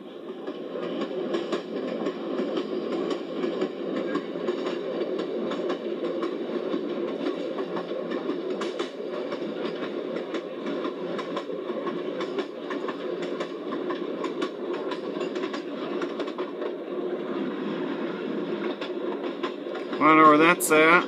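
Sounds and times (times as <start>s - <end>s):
rumble of train wheels on rails: 0.0s - 21.0s
track clicking and clacking: 0.3s - 21.0s.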